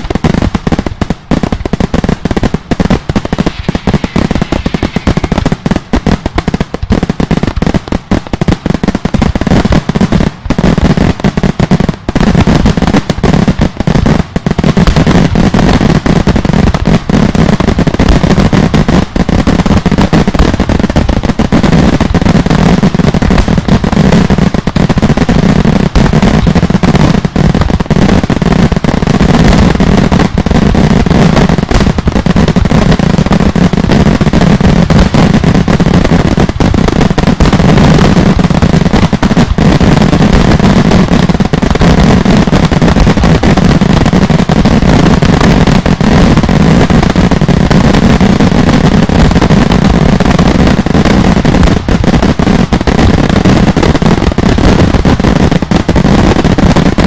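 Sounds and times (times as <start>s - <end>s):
fireworks exploding: 0.0s - 57.0s.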